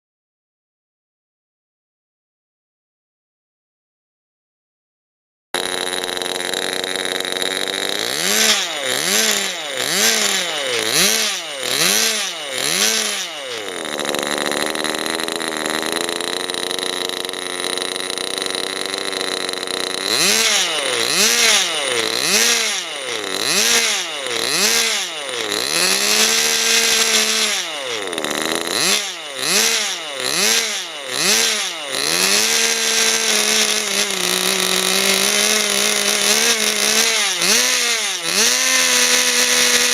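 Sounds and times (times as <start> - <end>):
model engine revving: 5.6 - 39.9.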